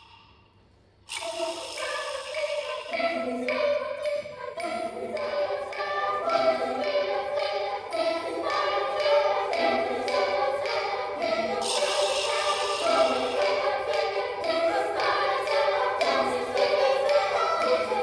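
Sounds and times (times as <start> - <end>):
children's choir singing: 1.1 - 18.0.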